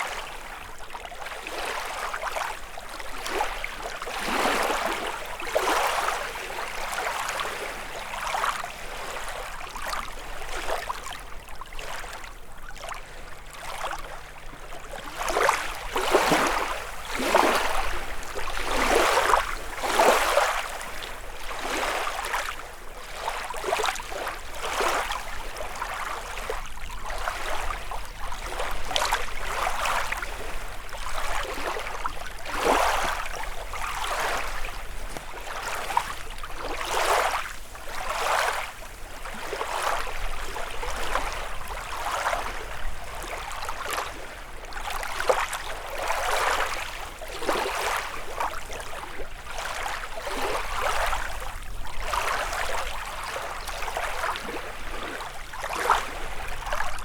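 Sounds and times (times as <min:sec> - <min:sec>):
lake waves lapping on shore: 0:00.0 - 0:57.0.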